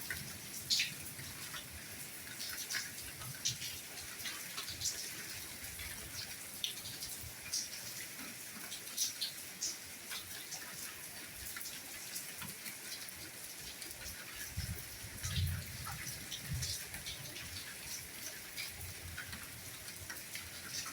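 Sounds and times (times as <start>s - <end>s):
raindrops ticking on a surface: 0.0s - 20.9s
soft steady rainfall: 0.0s - 20.9s.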